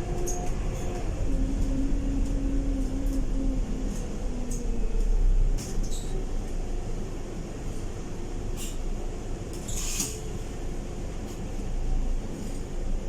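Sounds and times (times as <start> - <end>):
bus engine rumble with whine: 0.0 - 13.0.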